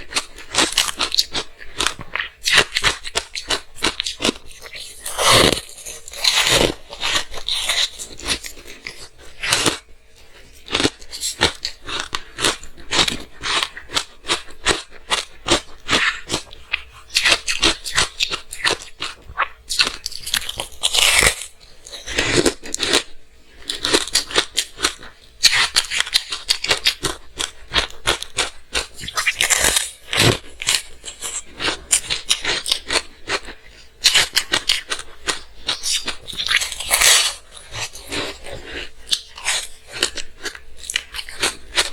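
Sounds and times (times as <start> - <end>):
ice being chewed crunching: 0.0 - 41.9.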